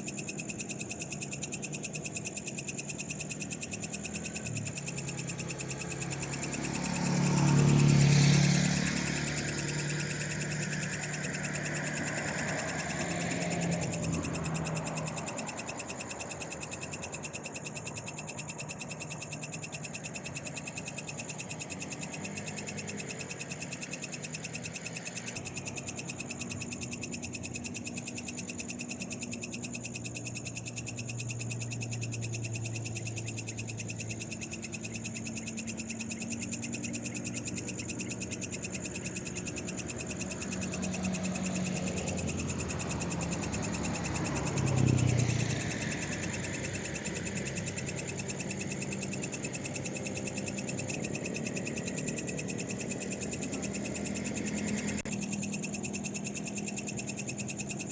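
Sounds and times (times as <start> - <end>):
frogs and insects calling: 0.0 - 57.9
hum of vehicles on road: 0.0 - 57.9.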